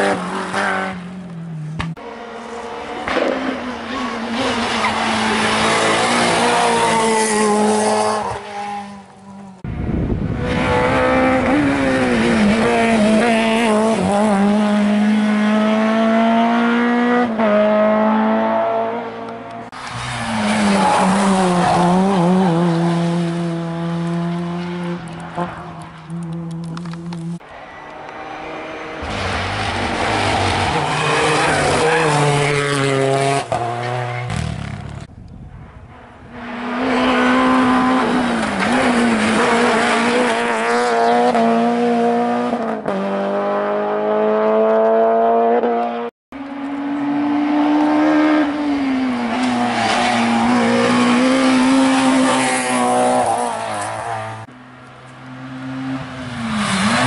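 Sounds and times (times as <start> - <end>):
rally car engines revving hard: 1.7 - 9.1, 9.7 - 27.4, 28.9 - 35.1, 36.4 - 54.5, 55.2 - 57.0.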